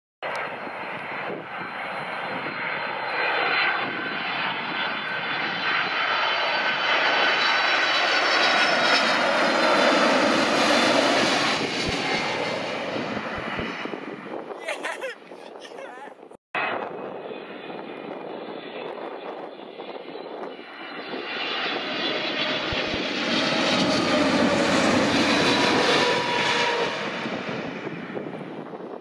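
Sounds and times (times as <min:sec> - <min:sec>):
high jet whine: 0:00.2 - 0:28.9
jet engines rumbling overhead: 0:00.2 - 0:29.0.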